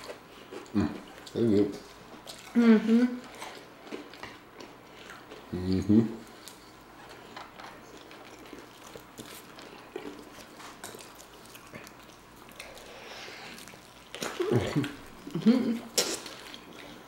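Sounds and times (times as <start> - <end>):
chewing crispy food: 0.0 - 17.0.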